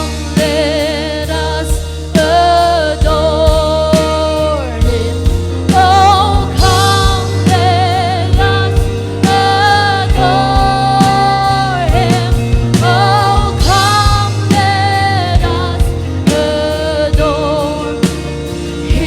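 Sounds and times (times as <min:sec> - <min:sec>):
bass line: 0:00.0 - 0:19.0
drum beats: 0:00.0 - 0:19.0
person singing with vibrato: 0:00.0 - 0:19.0.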